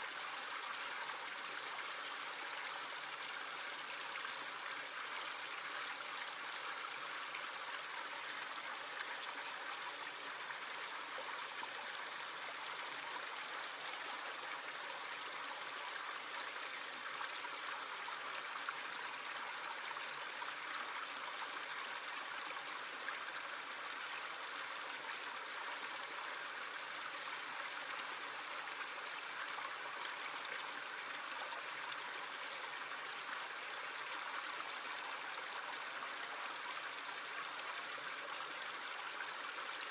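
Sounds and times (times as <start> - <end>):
brook flowing water: 0.0 - 39.9.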